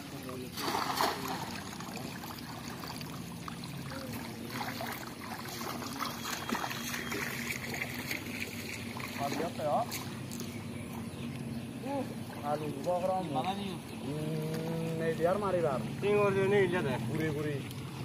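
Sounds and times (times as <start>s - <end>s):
water sloshing around wading legs: 0.0s - 18.0s.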